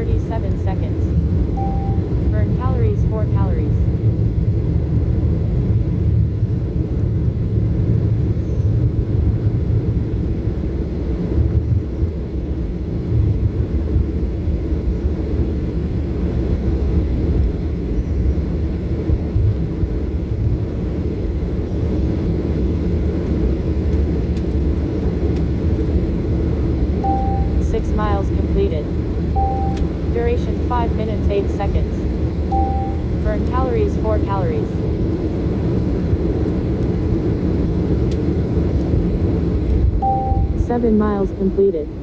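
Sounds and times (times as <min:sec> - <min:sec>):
jet engine rumble in cabin: 0:00.0 - 0:42.0.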